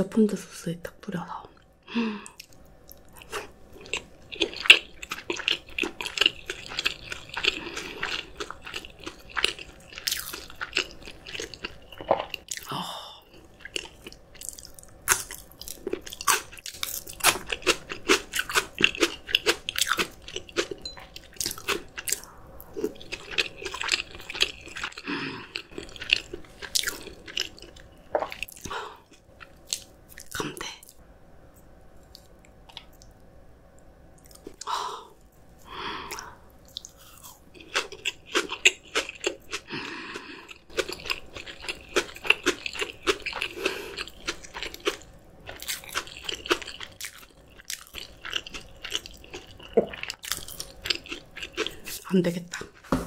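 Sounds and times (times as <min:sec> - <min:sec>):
person chewing crunchy food: 0:02.3 - 0:30.4, 0:35.6 - 0:53.0.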